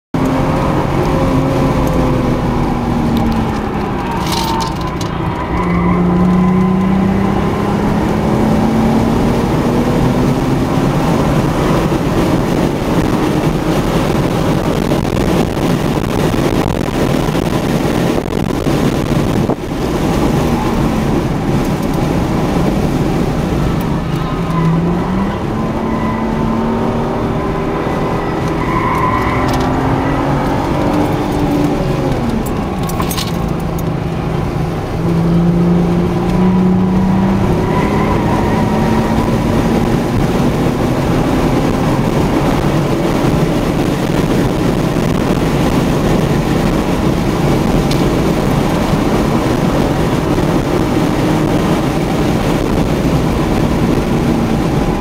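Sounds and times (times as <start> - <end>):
car engine while driving: 0.1 - 55.0
road noise: 0.1 - 55.0.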